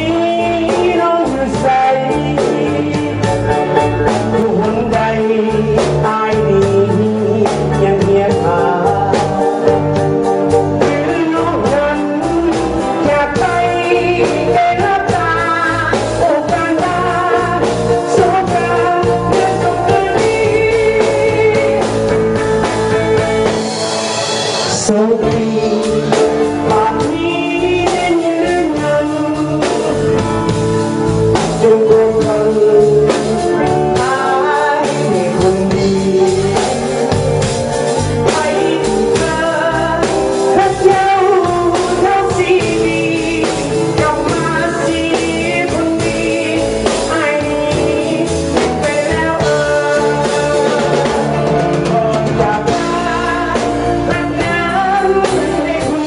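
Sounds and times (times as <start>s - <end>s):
bass guitar: 0.0s - 56.0s
drums: 0.0s - 56.0s
electric guitar: 0.0s - 56.0s
person singing lead vocals: 0.0s - 56.0s.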